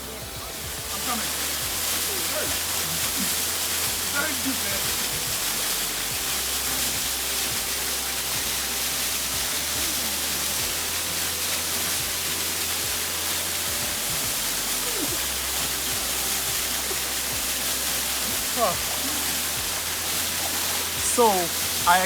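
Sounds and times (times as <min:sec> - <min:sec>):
small waterfall rushing into pool: 0:00.0 - 0:22.0.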